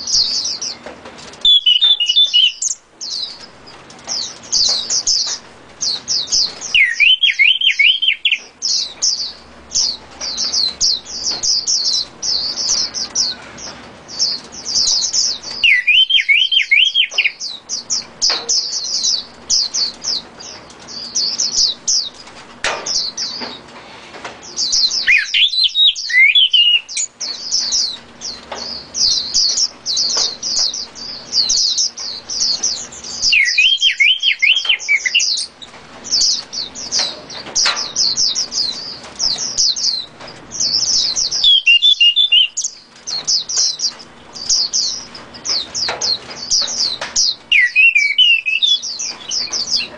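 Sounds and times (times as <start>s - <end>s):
songbirds twittering: 0.0s - 49.9s
bird warbling: 1.4s - 22.2s, 24.5s - 49.9s.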